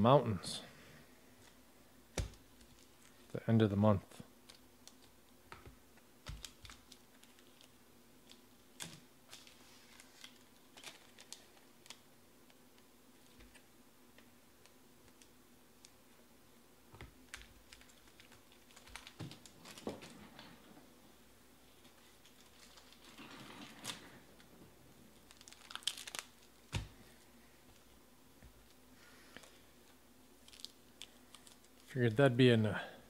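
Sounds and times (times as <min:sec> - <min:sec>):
room hum: 0:00.0 - 0:33.0.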